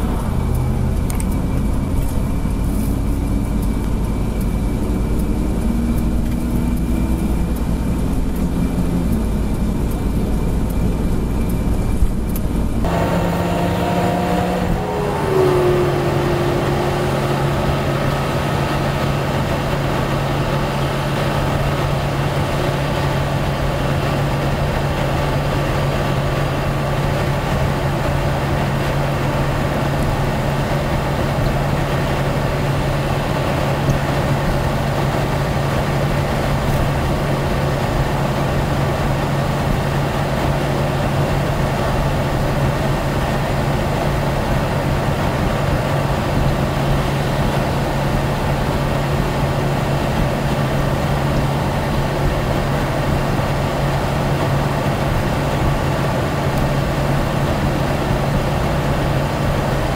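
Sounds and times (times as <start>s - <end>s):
low engine drone: 0.0s - 59.9s
road and tyre noise: 0.0s - 59.9s.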